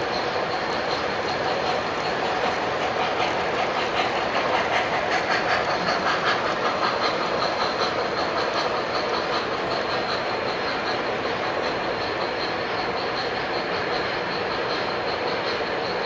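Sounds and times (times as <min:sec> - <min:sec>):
model train motors rumbling: 0:00.0 - 0:16.0
wheels clicking over track joints: 0:00.0 - 0:16.0.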